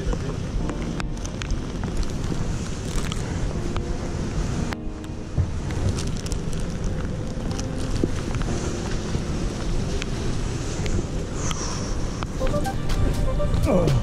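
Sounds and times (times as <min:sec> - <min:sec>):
rain: 0:00.0 - 0:14.0
wind buffeting microphone: 0:00.0 - 0:14.0
tyres hissing on wet road: 0:01.5 - 0:13.1.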